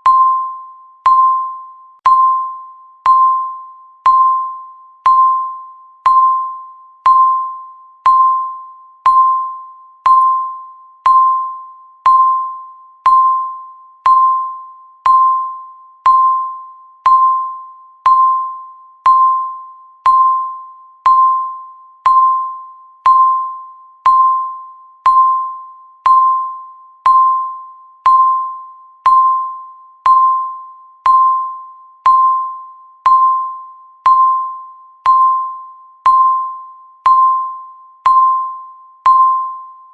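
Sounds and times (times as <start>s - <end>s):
timer ticking tone: 0.0s - 39.9s.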